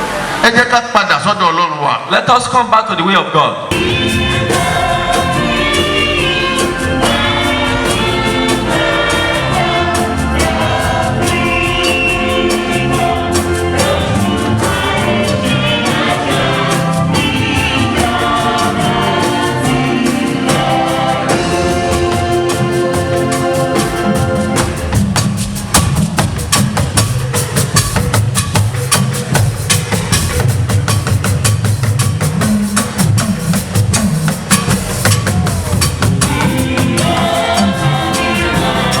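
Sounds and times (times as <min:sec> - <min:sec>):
choir singing gospel: 0:03.7 - 0:30.4, 0:33.9 - 0:39.0
percussion beat: 0:03.7 - 0:39.0.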